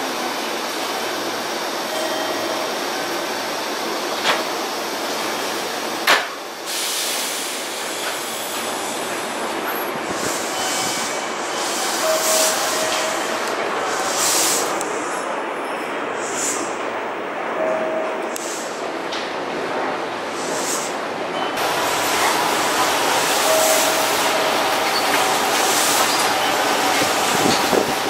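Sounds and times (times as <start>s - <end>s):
train equipment hum and hiss: 0.0s - 28.0s.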